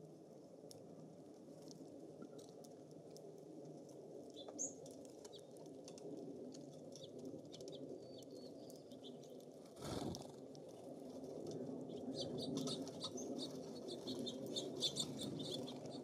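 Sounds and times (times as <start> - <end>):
low rumble of breeze: 0.0 - 16.0.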